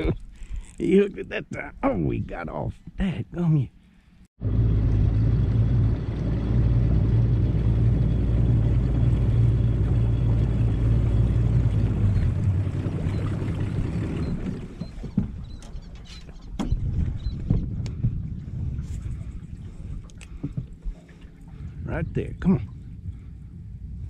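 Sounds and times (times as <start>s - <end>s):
outboard motor running: 4.4s - 23.7s.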